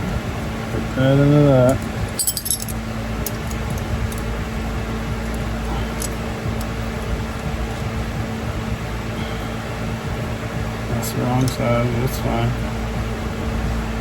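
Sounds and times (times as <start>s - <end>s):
shop equipment humming: 0.0s - 14.0s.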